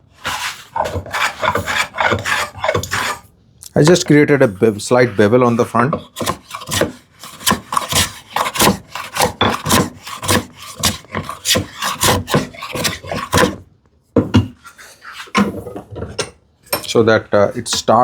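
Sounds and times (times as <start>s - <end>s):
hand tool rubbing on wood: 0.1s - 13.6s, 14.6s - 15.5s.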